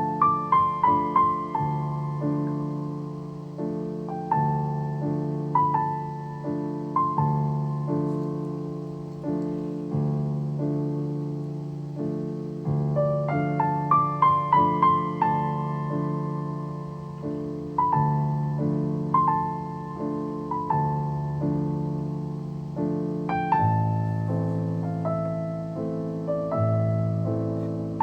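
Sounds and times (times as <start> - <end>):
gentle solo piano: 0.0 - 28.0.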